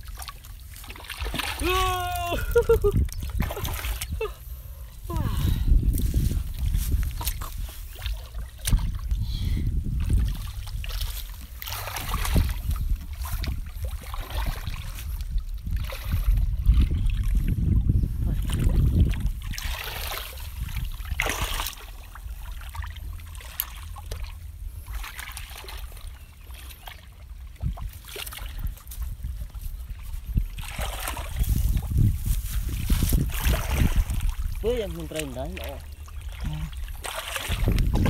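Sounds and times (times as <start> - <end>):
water sloshing and splashing: 0.0 - 38.0
steady low rumble: 2.1 - 34.7.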